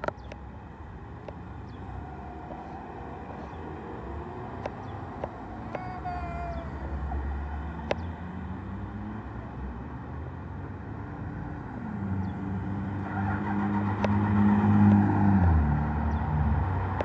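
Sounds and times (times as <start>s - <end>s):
cars driving past: 0.1s - 17.0s.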